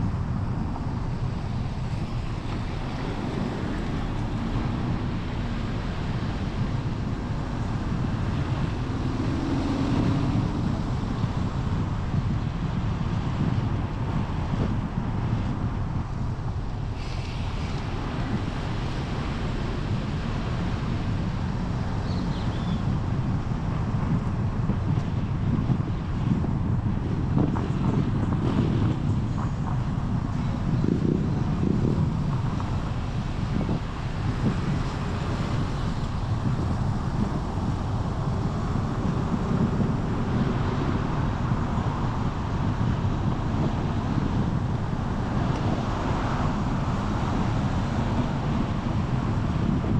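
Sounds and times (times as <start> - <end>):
tyre and traffic noise: 0.0 - 49.9
vehicle rumble on road: 0.0 - 49.9
wind buffeting microphone: 0.0 - 49.9.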